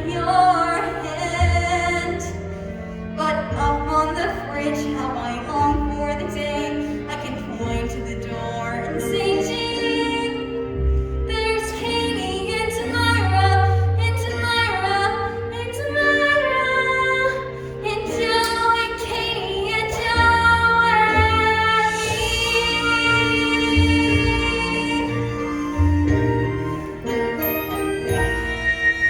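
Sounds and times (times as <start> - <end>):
musical accompaniment: 0.0 - 29.0.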